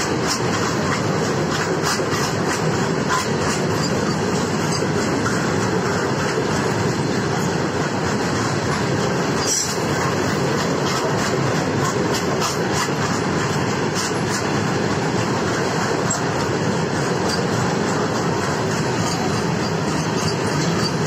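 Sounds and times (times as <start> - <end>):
steel wheels rumbling on rail: 0.0 - 21.0
wagons clicking and rattling: 0.0 - 21.0.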